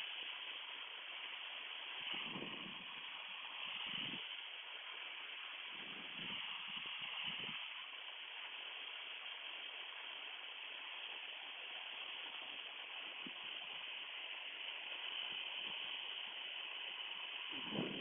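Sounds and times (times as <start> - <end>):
aircraft cabin noise hiss: 0.0 - 18.0.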